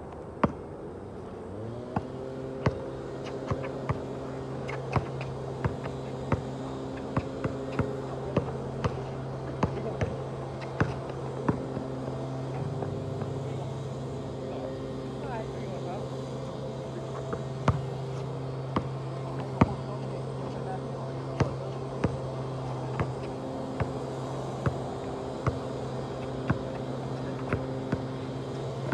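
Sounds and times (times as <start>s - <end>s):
steady motor drone: 0.0s - 28.9s
basketball bouncing on asphalt: 0.1s - 0.8s, 1.8s - 14.1s, 17.1s - 28.9s.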